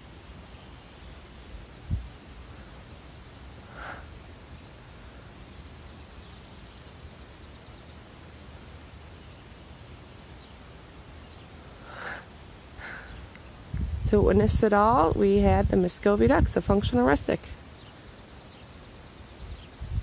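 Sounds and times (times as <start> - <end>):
outdoor rural ambience: 0.0 - 20.0.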